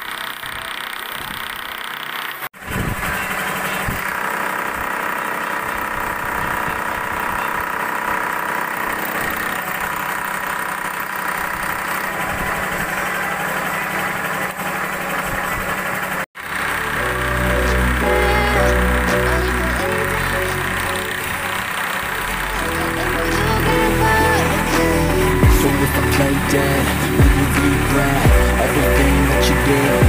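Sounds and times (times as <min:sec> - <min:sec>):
milling machine whining: 0:00.0 - 0:30.0.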